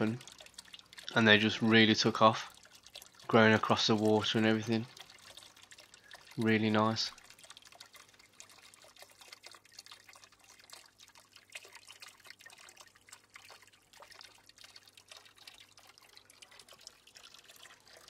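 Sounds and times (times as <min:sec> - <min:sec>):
water trickling and dripping: 0:00.0 - 0:18.0.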